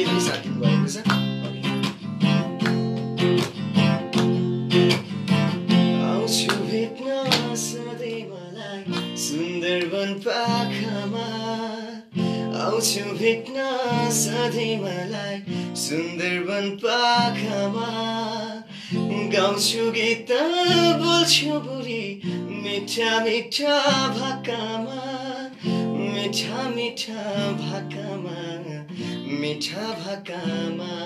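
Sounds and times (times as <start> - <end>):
man singing: 0.0 - 1.8, 5.7 - 31.0
acoustic guitar strumming: 0.0 - 31.0.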